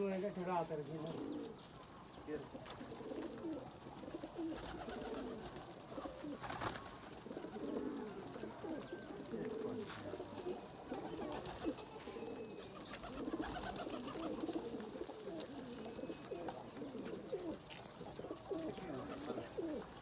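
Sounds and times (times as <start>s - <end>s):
pigeons cooing: 0.7s - 20.0s.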